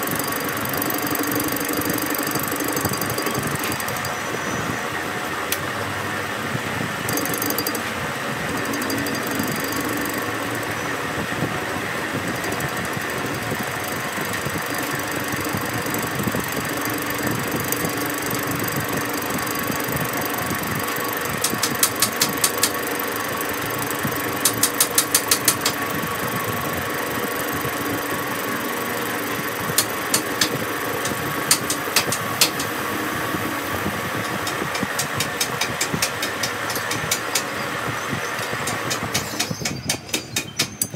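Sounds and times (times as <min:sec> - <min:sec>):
rapid clicking bursts: 0:00.0 - 0:04.2, 0:07.0 - 0:40.9
metal lathe cutting: 0:00.0 - 0:39.5.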